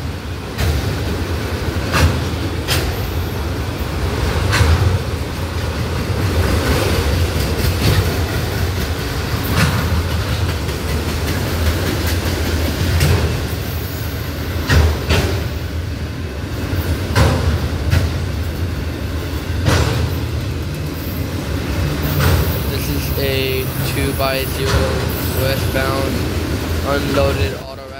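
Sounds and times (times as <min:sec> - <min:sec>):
steel wheels rumbling: 0:00.0 - 0:27.9.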